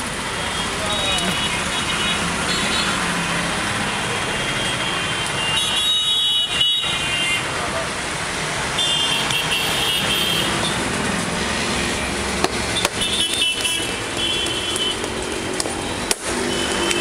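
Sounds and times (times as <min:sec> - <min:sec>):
street traffic din: 0:00.0 - 0:17.0.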